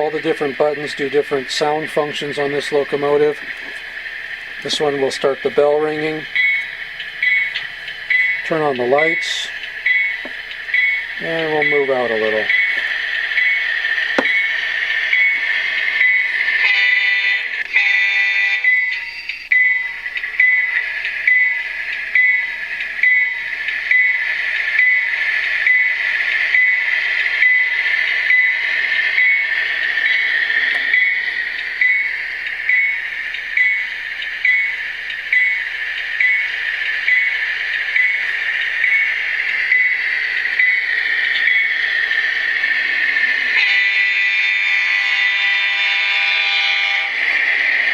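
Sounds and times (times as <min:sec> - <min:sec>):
locomotive bell ringing: 0:00.0 - 0:03.6, 0:04.6 - 0:47.7
model locomotive engine sound: 0:00.0 - 0:47.9.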